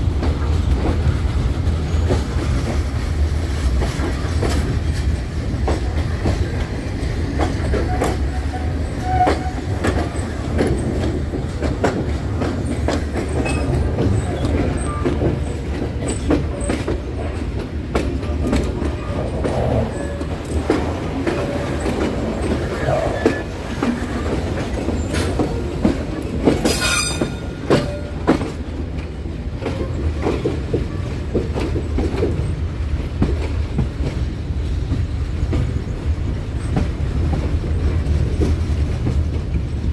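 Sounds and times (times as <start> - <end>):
train rolling over rails: 0.0 - 39.9
wheels clicking over rail joints: 0.1 - 39.9.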